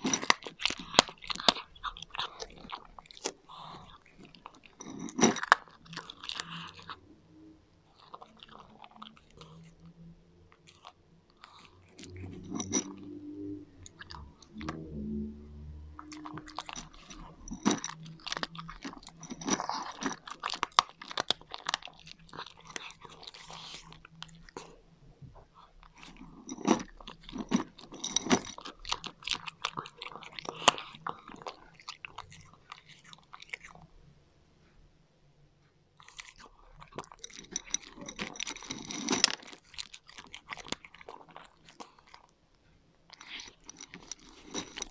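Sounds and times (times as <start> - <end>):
cat crunching dry kibble: 0.0 - 7.1, 7.8 - 24.8, 25.4 - 33.9, 36.0 - 42.4, 43.0 - 44.9.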